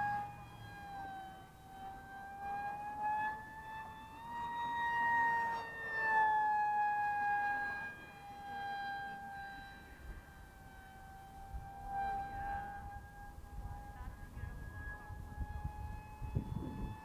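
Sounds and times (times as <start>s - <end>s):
model jet high-pitched whine: 0.0s - 17.0s.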